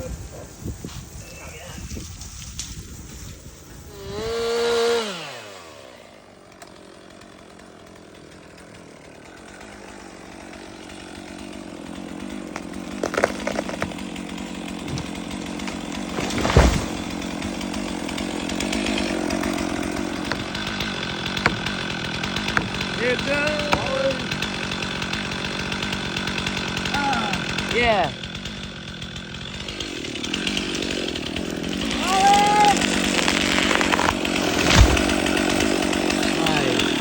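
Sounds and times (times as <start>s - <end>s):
chainsaw cutting a tree: 0.0s - 37.0s
sharp wood cracks: 1.8s - 3.4s, 6.5s - 37.0s.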